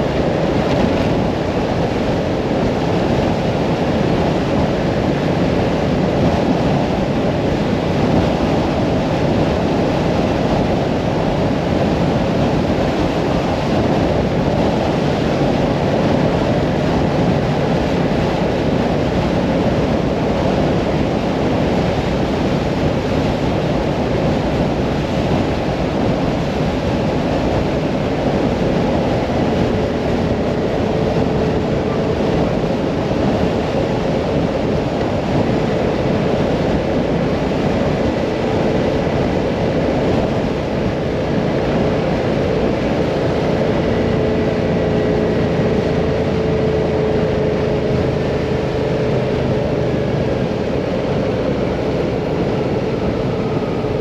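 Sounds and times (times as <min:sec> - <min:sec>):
motorcycle engine cruising: 0:00.0 - 0:54.0
wind rush on microphone: 0:00.0 - 0:54.0.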